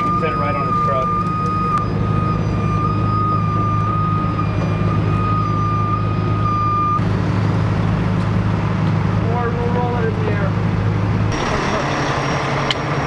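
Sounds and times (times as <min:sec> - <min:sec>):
winch whining: 0:00.0 - 0:07.0, 0:09.2 - 0:13.0
truck engine running: 0:00.0 - 0:13.0.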